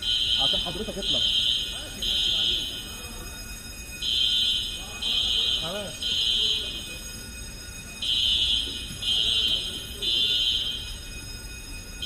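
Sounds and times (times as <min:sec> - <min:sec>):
pulsing fire alarm tone: 0:00.0 - 0:12.0
faint voices: 0:00.4 - 0:12.0.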